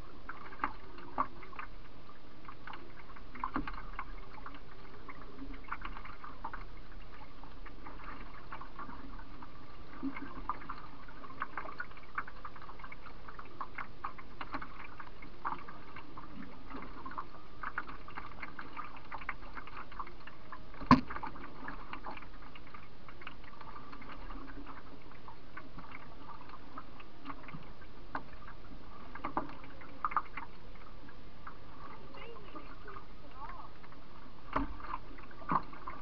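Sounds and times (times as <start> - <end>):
small splashes and drips: 0.0 - 36.0
water lapping against canoe: 0.0 - 36.0.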